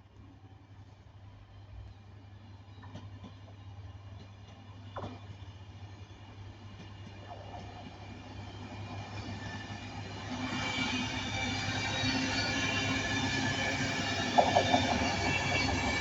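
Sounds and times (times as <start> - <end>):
train passing: 0.4 - 16.0.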